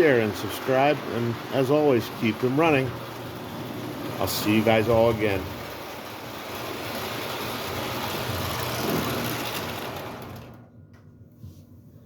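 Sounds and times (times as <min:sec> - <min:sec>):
toy train whirring on track: 0:00.0 - 0:10.6.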